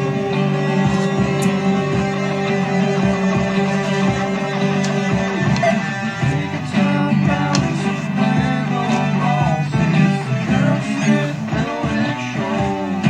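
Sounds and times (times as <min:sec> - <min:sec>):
guitar-led music with steady beat: 0:00.0 - 0:13.0.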